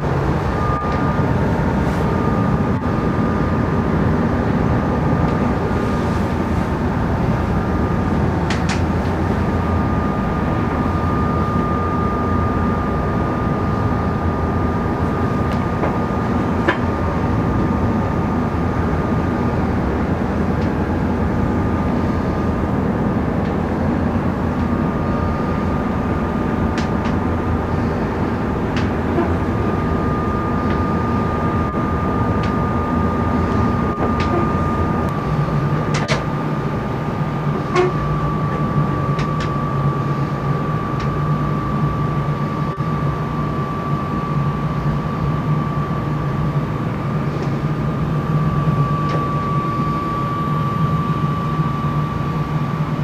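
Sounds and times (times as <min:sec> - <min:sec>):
boat engine running: 0:00.0 - 0:53.0
steady whine: 0:00.0 - 0:53.0.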